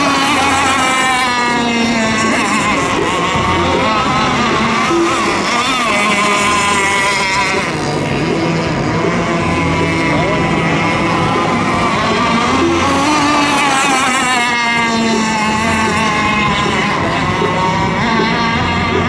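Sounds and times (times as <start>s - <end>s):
high-pitched rc boat motors: 0.0s - 19.0s.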